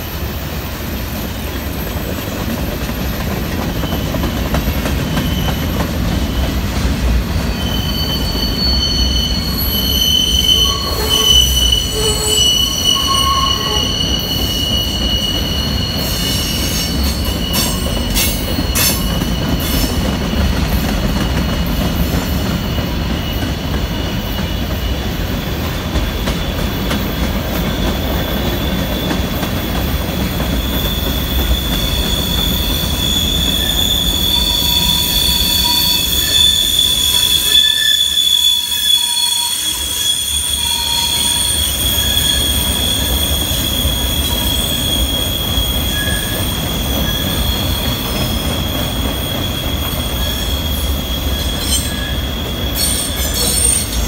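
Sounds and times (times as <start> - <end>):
train wheels rumbling on rail: 0.0 - 54.0
high wheel squeal: 1.1 - 54.0.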